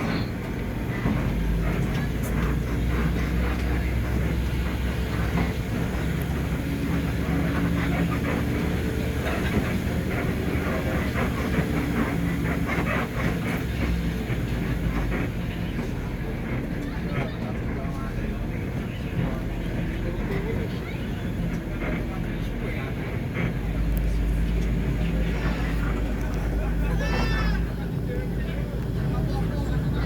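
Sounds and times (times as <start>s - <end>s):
bus diesel engine humming: 0.0s - 30.0s.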